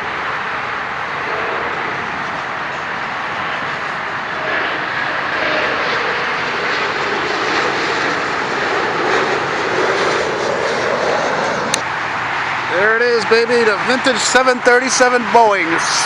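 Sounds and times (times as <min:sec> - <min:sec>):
jet airliner engines roaring: 0:00.0 - 0:16.0.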